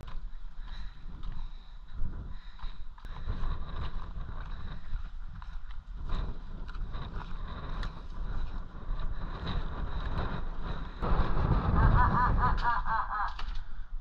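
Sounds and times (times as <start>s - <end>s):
footsteps on sand: 0.0s - 11.8s
wind buffeting microphone: 0.0s - 14.0s.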